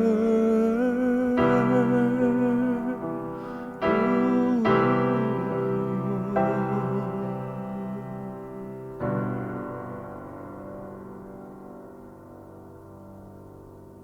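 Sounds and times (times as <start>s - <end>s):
solo piano slow chords: 0.0s - 14.0s.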